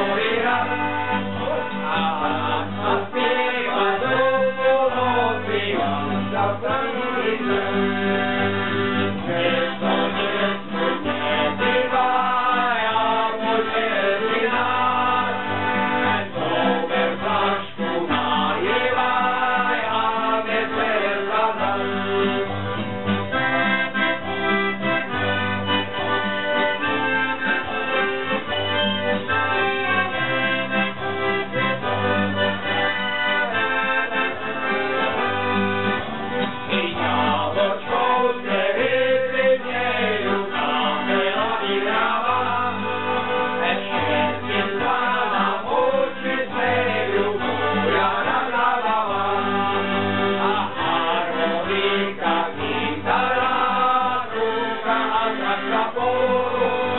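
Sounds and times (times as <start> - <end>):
men singing: 0.0 - 22.6, 26.8 - 35.7, 36.5 - 56.9
accordion: 0.0 - 56.9
strummed acoustic guitar: 0.0 - 56.9.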